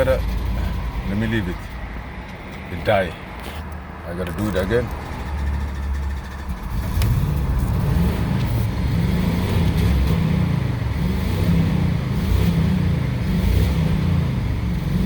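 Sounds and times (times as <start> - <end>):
car engine starting and running: 0.0 - 15.0.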